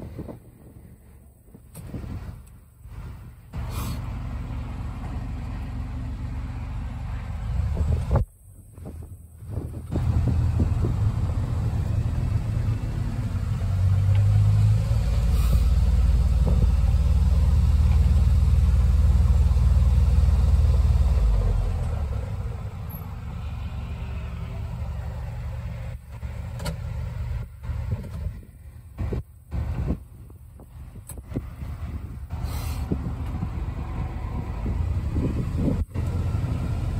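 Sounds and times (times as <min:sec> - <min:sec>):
utility vehicle engine driving: 0:00.0 - 0:36.9.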